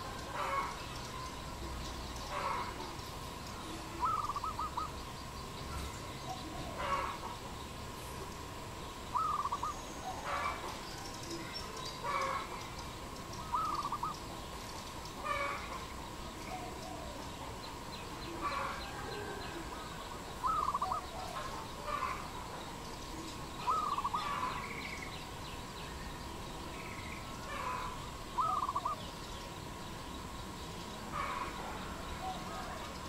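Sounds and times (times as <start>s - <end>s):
rough bird calls: 0.0s - 7.5s, 9.1s - 17.2s, 18.0s - 25.4s, 26.7s - 29.6s, 30.2s - 33.0s
faint steady tone: 0.0s - 33.0s.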